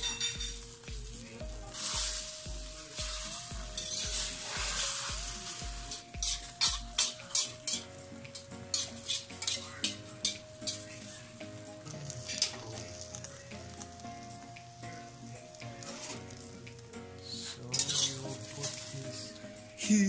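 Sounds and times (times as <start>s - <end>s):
spatula scraping and tapping pan: 0.0s - 14.0s, 15.7s - 16.8s, 17.6s - 19.2s
eggs sizzling in a pan: 0.0s - 20.0s.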